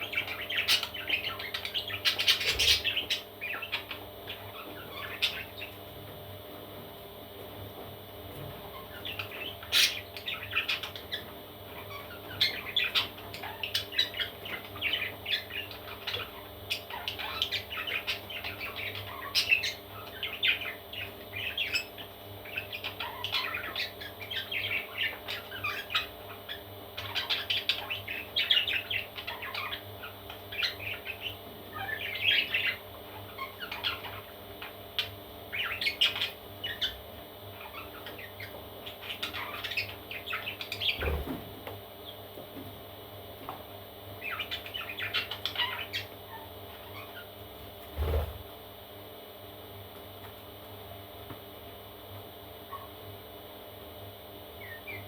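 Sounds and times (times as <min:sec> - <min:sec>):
parrot chicks chirping: 0:00.0 - 0:48.4, 0:49.8 - 0:55.0
faint steady hum: 0:00.0 - 0:55.0.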